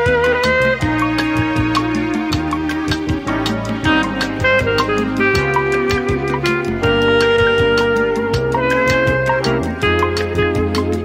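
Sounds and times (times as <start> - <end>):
bass line: 0.0 - 11.0
brass and reed melody: 0.0 - 11.0
light percussion beat: 0.0 - 11.0.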